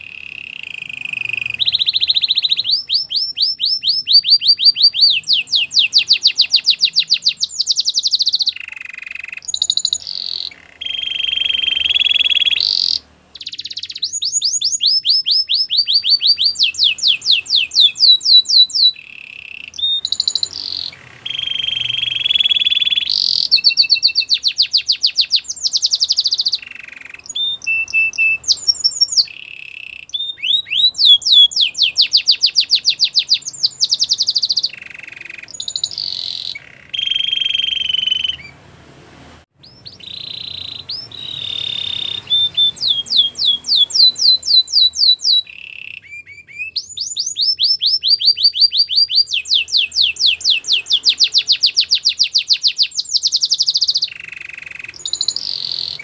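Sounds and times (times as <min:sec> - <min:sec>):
canary singing trills: 0:00.0 - 0:38.8, 0:39.6 - 0:56.0.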